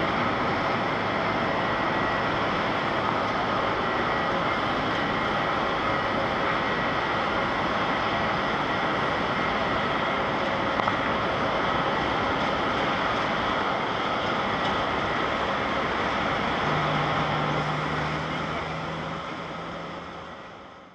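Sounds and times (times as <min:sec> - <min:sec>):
distant jet roar: 0:00.0 - 0:20.7.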